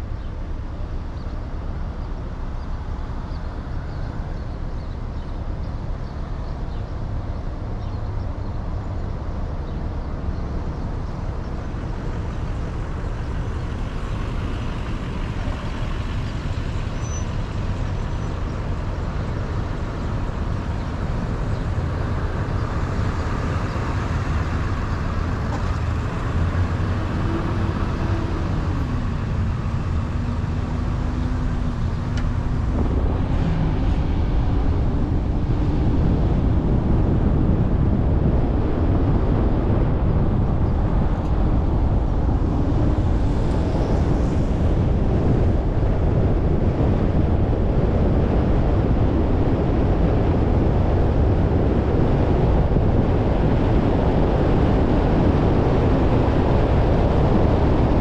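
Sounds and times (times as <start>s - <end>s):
vehicle engine drone: 0.0s - 58.0s.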